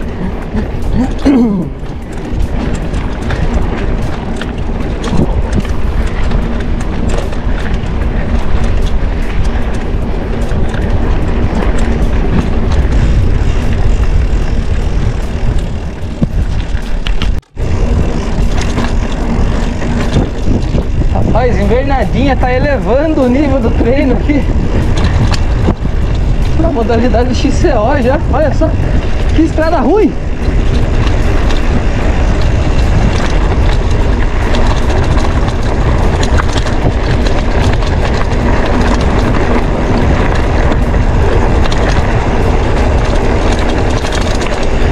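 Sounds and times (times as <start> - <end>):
bike rattling over dirt road: 0.0 - 44.9
wind buffeting microphone: 0.0 - 44.9.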